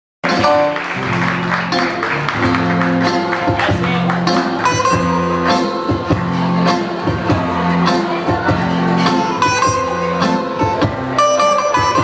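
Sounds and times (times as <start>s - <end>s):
plucked-string lead melody: 0.2s - 12.0s
sustained bass notes: 0.2s - 12.0s
steady beat: 1.4s - 12.0s.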